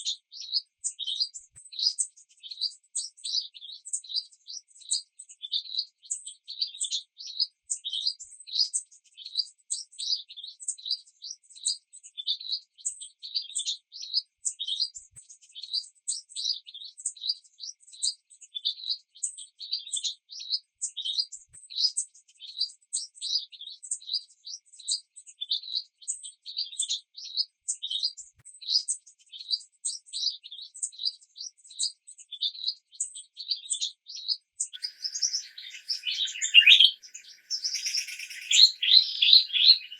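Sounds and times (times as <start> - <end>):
small bird chirping rapidly: 0.0 - 39.9.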